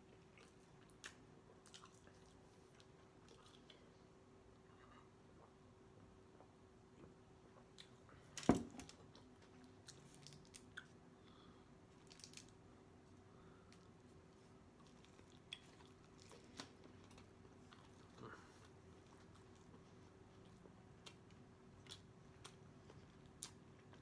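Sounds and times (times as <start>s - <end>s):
quiet chewing: 0.0s - 5.7s, 9.0s - 24.0s.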